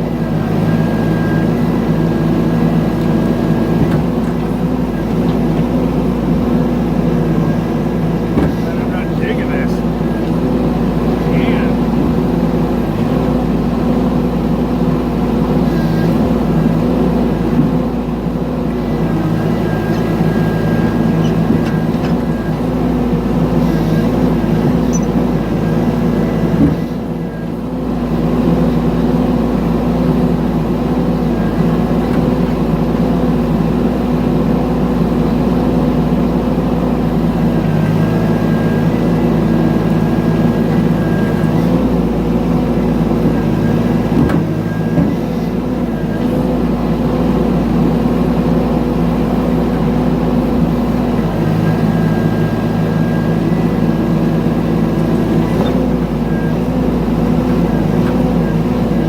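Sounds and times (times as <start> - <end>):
mini excavator engine running: 0.0 - 59.0.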